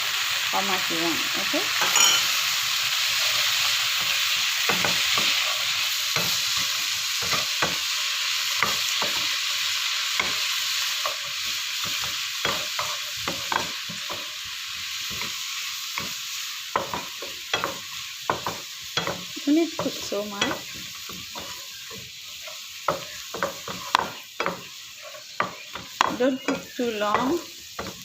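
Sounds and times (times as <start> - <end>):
vegetables sizzling in oil: 0.0 - 28.0
spatula scraping a pan: 1.7 - 28.0.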